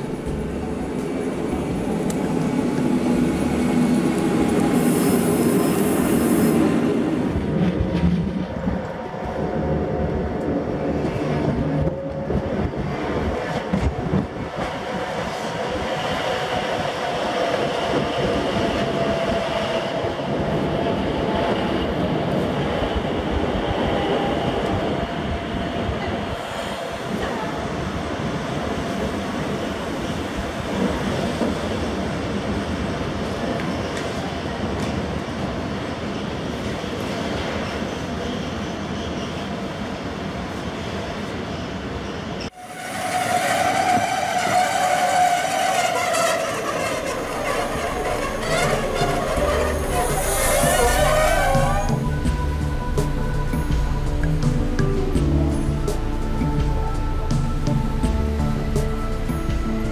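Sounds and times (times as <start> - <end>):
train wheels rumbling: 0.0 - 35.6, 42.4 - 59.9
rail running noise: 0.0 - 59.9.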